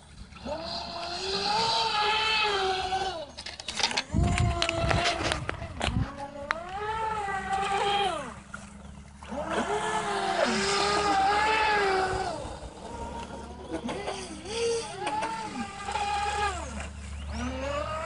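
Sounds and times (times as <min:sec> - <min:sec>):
rc speedboat motor whining: 0:00.0 - 0:18.0.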